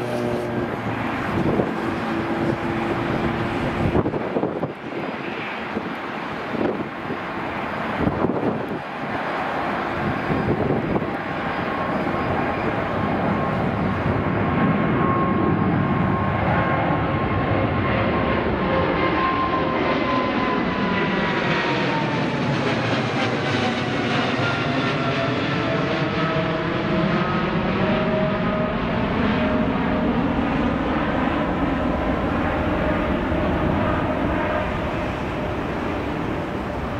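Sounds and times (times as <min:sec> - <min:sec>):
jet engines at takeoff thrust: 0:00.0 - 0:36.9.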